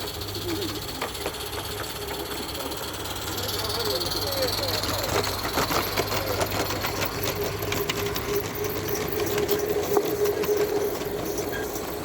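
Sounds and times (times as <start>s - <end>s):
steam locomotive running: 0.0s - 12.0s.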